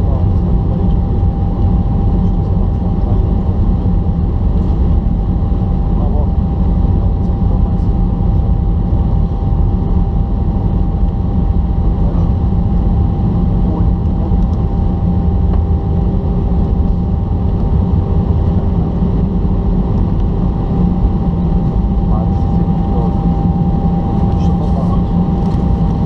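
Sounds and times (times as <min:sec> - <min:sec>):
aircraft engines and wheels rumbling: 0:00.0 - 0:26.0
lower whine: 0:00.0 - 0:26.0
thin steady whine: 0:00.0 - 0:26.0.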